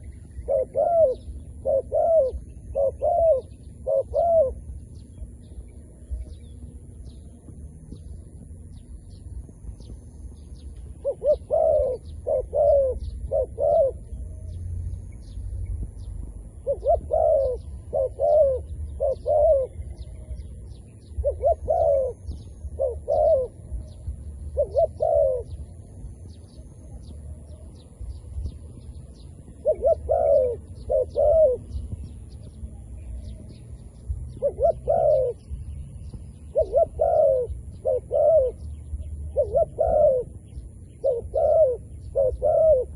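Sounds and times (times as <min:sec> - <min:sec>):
dove cooing: 0:00.0 - 0:08.8, 0:10.6 - 0:14.6, 0:16.3 - 0:42.9
steady low rumble: 0:00.0 - 0:42.9.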